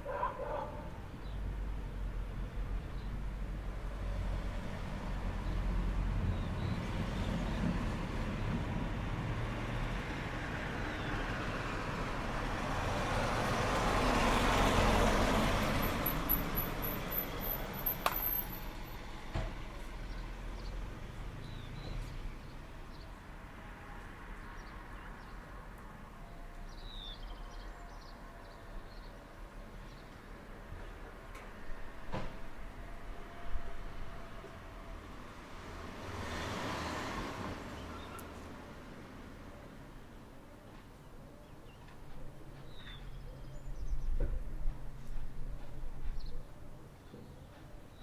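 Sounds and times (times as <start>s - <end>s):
road vehicle passing by: 0.1s - 29.0s, 29.7s - 40.1s.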